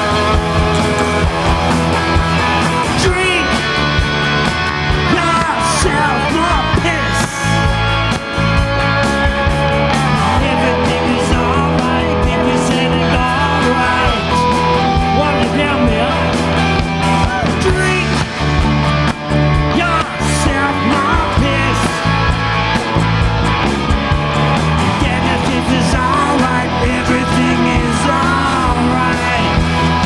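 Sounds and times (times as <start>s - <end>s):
bass: 0.0s - 30.0s
drums: 0.0s - 30.0s
electric guitars: 0.0s - 30.0s.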